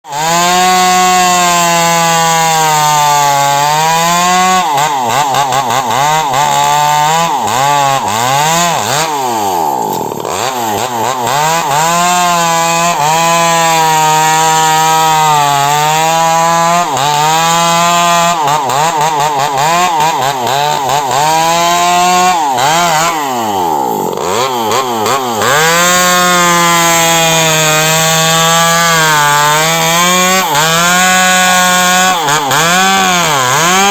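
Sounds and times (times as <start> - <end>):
power tool working wood: 0.1 - 33.9.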